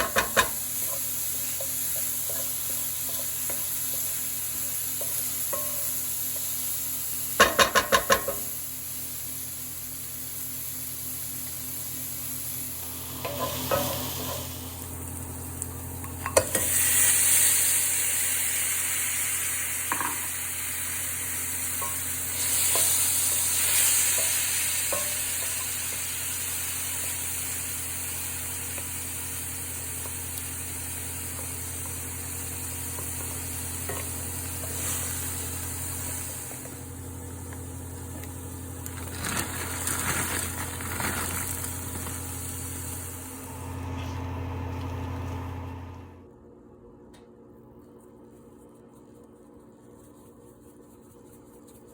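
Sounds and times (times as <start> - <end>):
food sizzling in a pan: 0.0 - 45.6.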